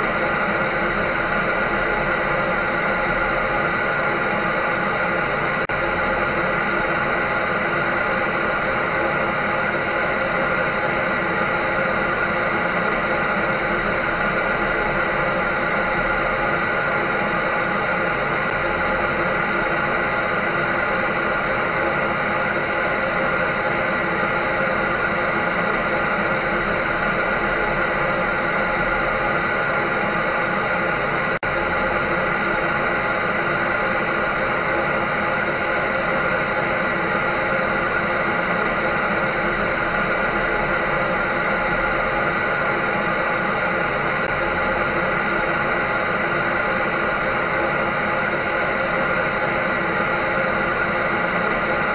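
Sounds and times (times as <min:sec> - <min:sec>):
electric dryer running: 0:00.0 - 0:51.9.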